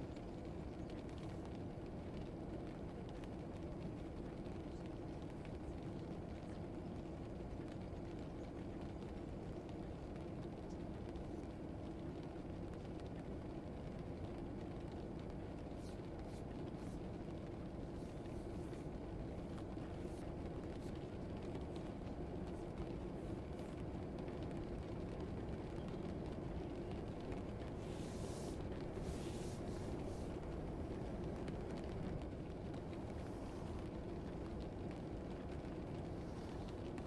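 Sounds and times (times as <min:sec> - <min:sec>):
low background rumble: 0:00.0 - 0:37.0.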